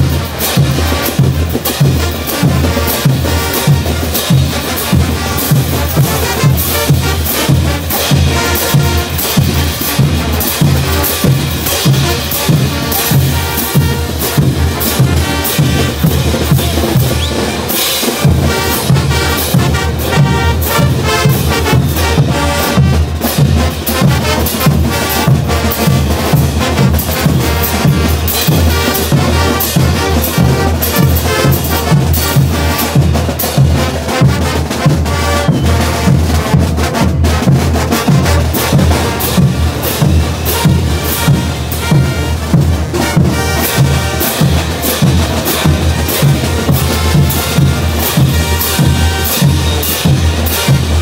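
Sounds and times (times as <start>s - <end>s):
bass drums beating: 0.0s - 51.0s
brass playing: 0.0s - 51.0s.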